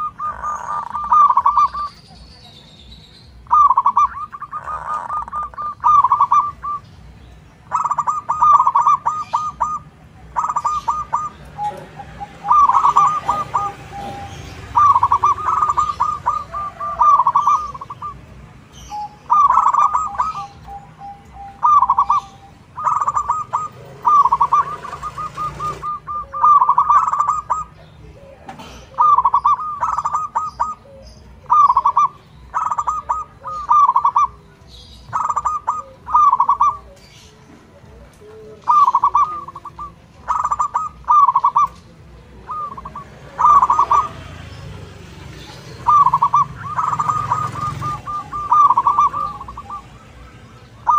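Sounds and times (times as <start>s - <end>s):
dove cooing: 0.0s - 2.6s, 3.4s - 50.9s.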